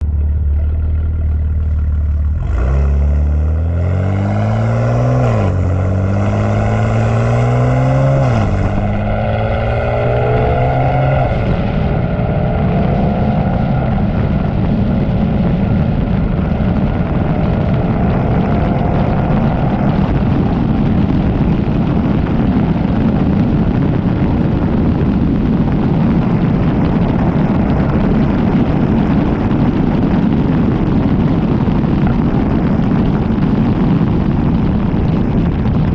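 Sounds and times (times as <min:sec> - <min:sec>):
car engine accelerating hard: 0:00.0 - 0:35.9
loud rush of noise: 0:00.0 - 0:35.9.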